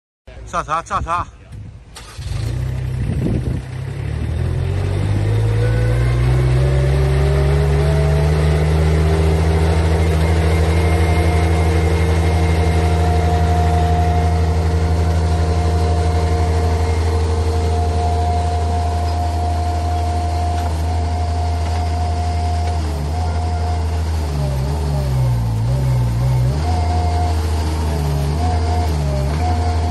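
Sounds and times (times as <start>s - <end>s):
loader engine running: 1.8s - 29.9s.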